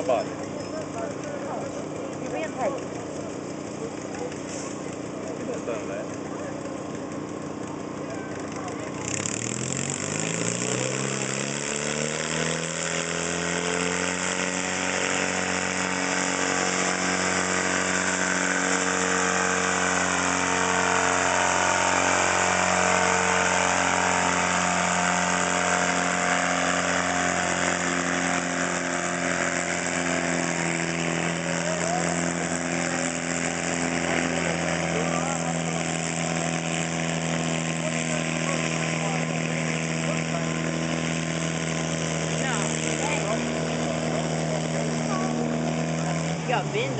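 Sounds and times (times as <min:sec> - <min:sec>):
tractor engine revving under load: 0:00.0 - 0:46.9.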